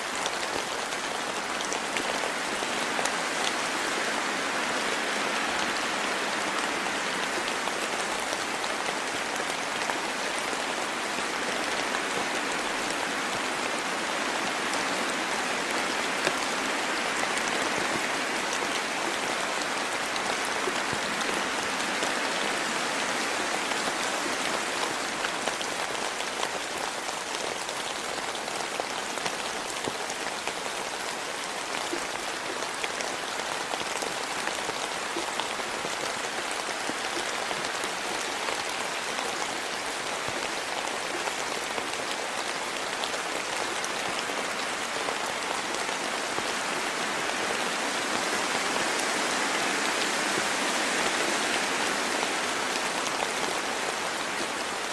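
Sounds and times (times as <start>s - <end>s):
rain on ground and foliage: 0.0s - 54.9s.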